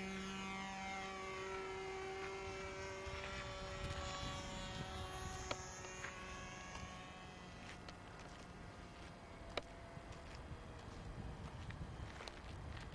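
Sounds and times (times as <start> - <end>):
model airplane engine buzzing: 0.0 - 12.9.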